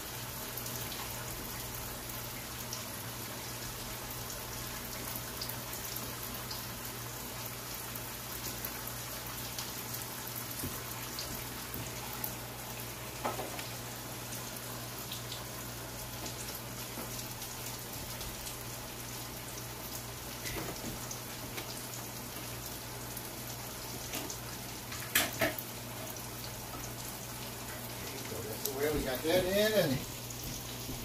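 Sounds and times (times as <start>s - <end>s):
food sizzling in grease: 0.0s - 31.0s.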